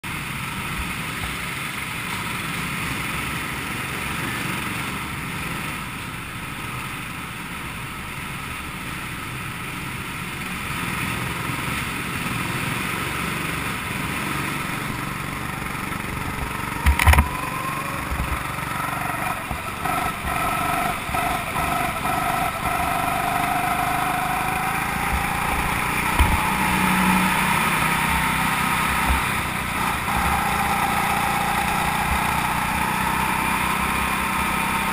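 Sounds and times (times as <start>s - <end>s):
go-kart engine running: 0.1s - 34.9s.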